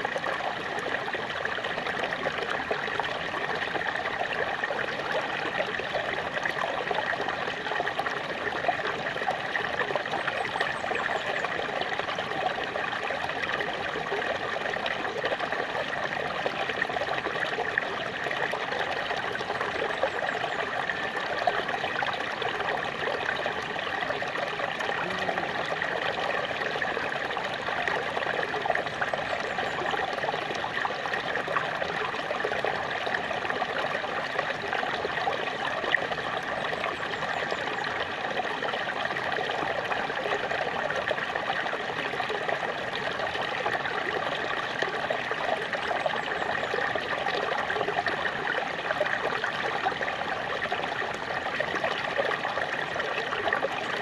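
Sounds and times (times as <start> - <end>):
waterfall splashing and trickling: 0.0 - 54.0.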